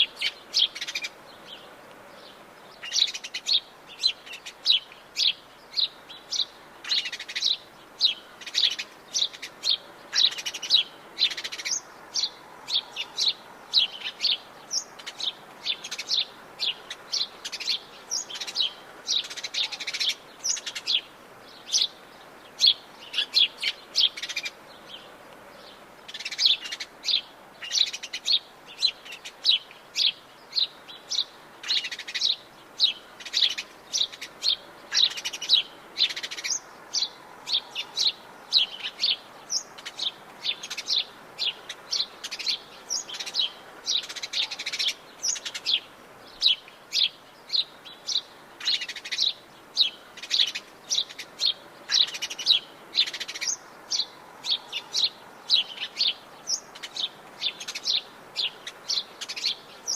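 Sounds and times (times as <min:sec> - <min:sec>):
birds chirping: 0:00.0 - 0:59.9
faint steady hiss: 0:00.0 - 0:59.9.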